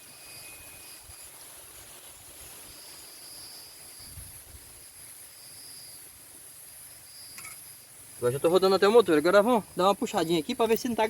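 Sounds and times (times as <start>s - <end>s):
insect chirps: 0.0s - 11.0s
insects buzzing: 0.0s - 11.0s.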